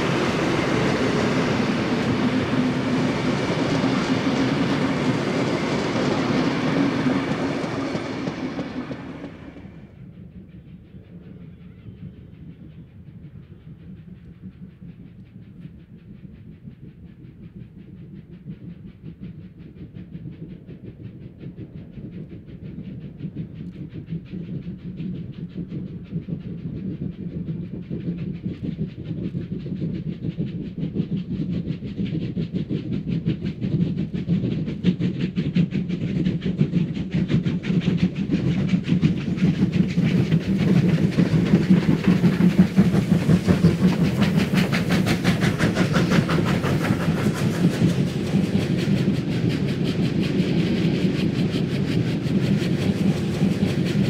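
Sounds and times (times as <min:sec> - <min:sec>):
steam locomotives chuffing: 0:00.0 - 0:54.0.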